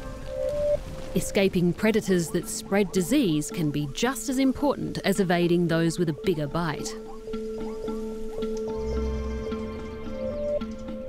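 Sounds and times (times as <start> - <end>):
held tones with repeated notes: 0.0 - 11.0.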